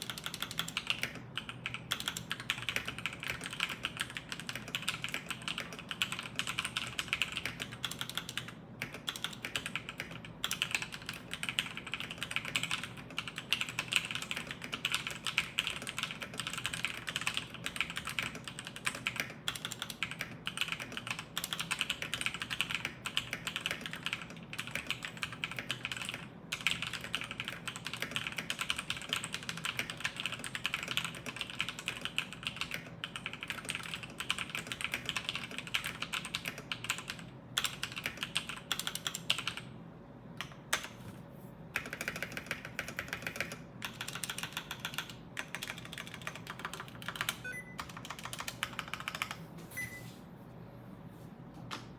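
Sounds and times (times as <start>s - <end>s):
fast mechanical keyboard typing: 0.0s - 39.7s, 41.7s - 49.5s.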